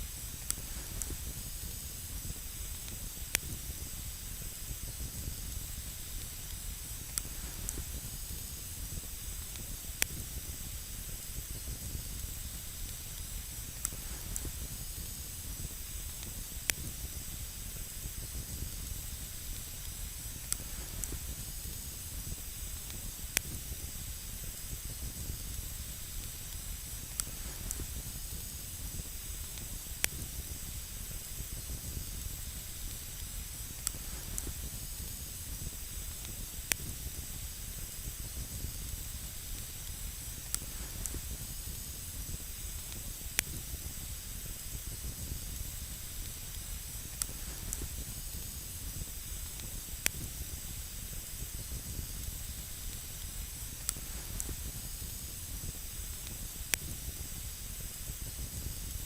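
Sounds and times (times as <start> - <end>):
campfire crackling and hissing: 0.0 - 59.0.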